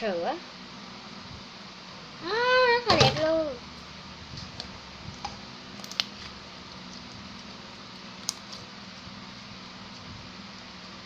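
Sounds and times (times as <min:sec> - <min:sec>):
fan hum: 0:00.0 - 0:11.0.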